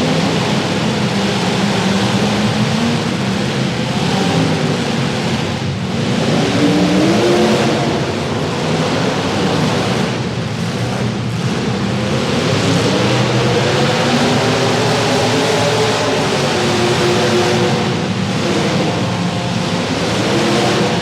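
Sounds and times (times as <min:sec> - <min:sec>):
car engines revving loudly: 0:00.0 - 0:21.0.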